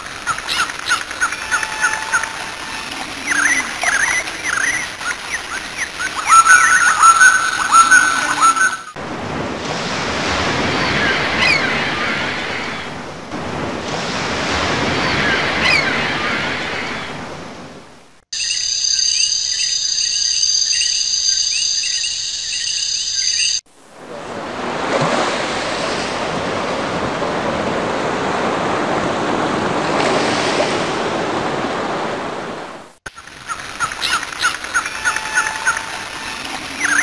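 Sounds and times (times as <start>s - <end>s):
rushing surf: 0.0s - 18.1s, 23.7s - 37.0s.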